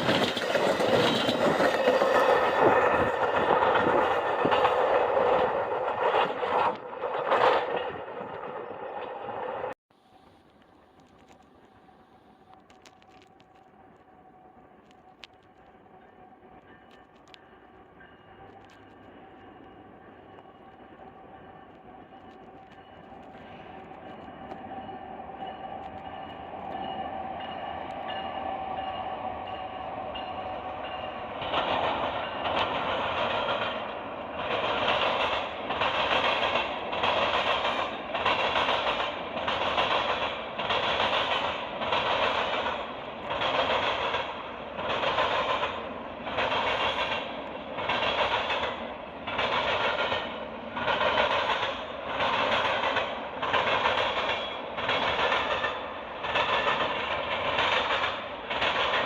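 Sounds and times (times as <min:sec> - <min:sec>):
rail cars rolling rhythmically: 0:00.0 - 0:59.0
train passing with held tones: 0:00.0 - 0:59.0.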